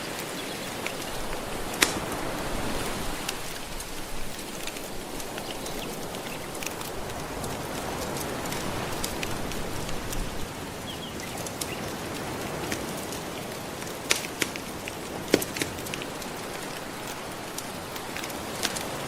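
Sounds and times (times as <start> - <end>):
gentle ocean waves: 0.0 - 19.0
wood fire crackling: 0.0 - 19.0.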